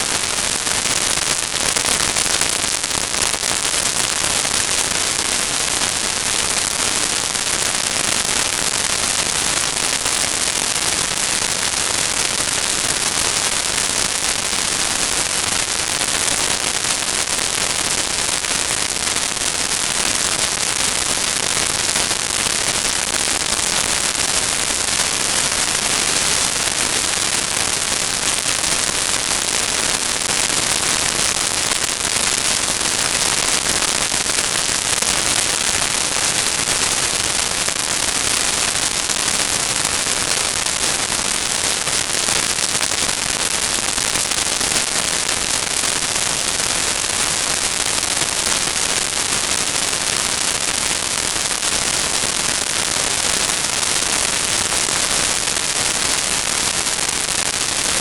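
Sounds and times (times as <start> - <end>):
loud crackling static hiss: 0.0 - 58.0.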